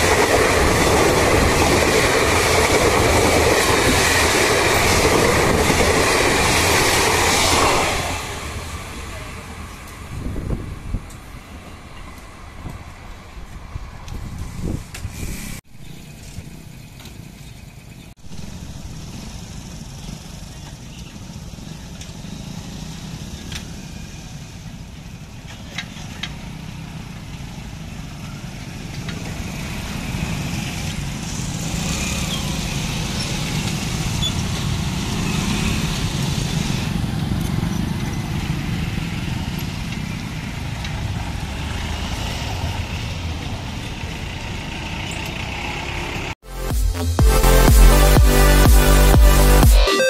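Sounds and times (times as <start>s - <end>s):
motorcycles and vehicles passing: 0.0s - 46.4s.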